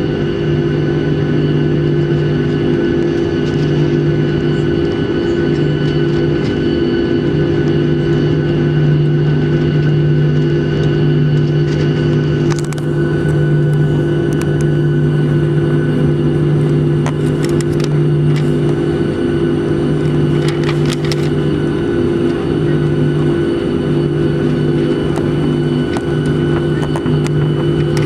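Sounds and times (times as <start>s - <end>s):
jet engines humming with high whine: 0.0s - 28.0s.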